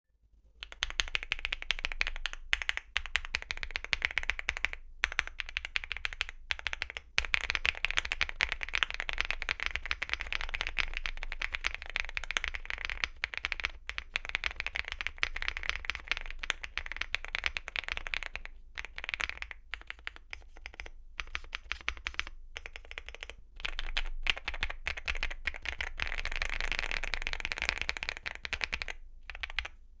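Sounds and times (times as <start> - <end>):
mechanical keyboard typing clacks: 0.6 - 20.8, 21.8 - 29.8.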